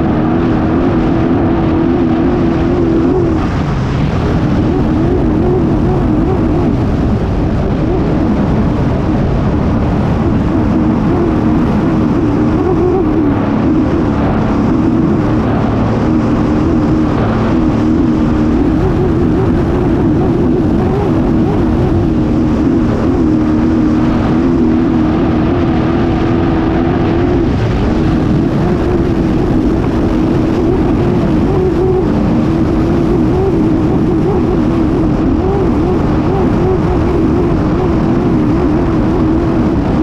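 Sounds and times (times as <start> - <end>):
boat engine running flat out: 0.0 - 40.0
rushing wind and water: 0.0 - 40.0.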